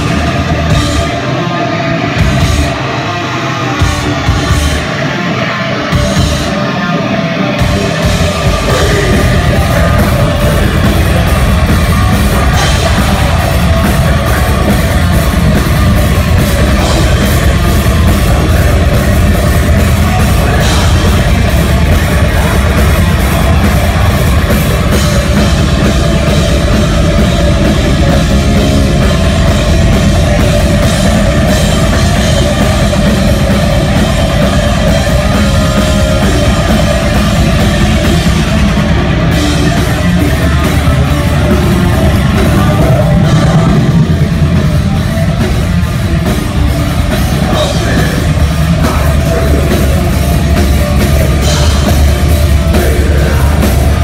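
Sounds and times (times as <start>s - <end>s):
bass guitar: 0.0s - 54.0s
distorted electric guitar: 0.0s - 54.0s
drum kit: 0.0s - 54.0s.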